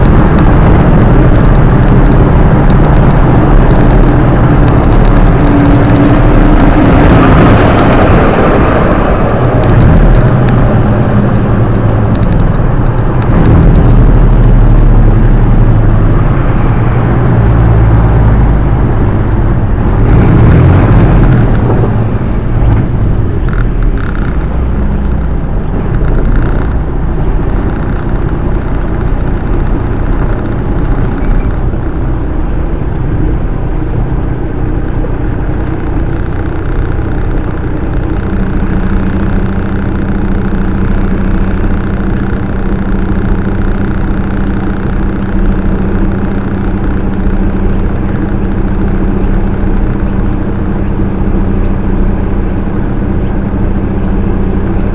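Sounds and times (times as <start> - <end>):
road rumble: 0.0 - 54.9
steady droning note: 0.0 - 54.9
truck diesel engine: 0.0 - 54.9.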